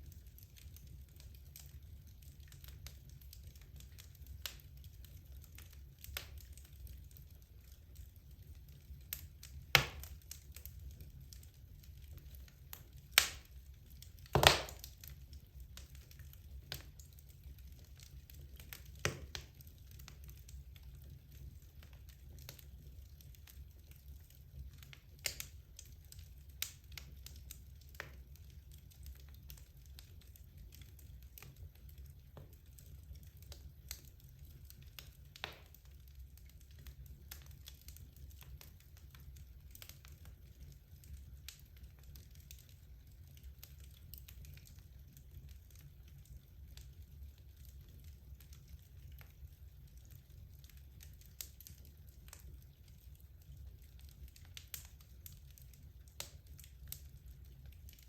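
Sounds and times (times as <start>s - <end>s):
low rumble of flames: 0.0s - 58.0s
wood fire crackles and pops: 0.0s - 58.0s.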